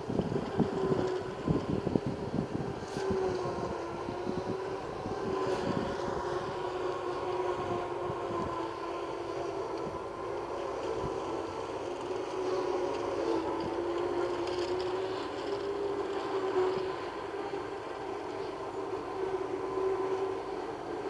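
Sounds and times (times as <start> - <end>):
forage harvester droning with whine: 0.0 - 21.0
wind rumbling on microphone: 0.0 - 21.0.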